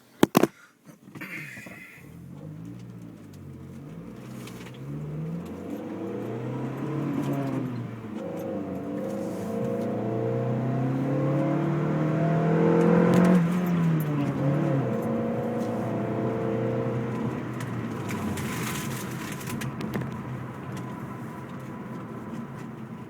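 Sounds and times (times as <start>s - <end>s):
car engine revving: 2.0s - 23.0s.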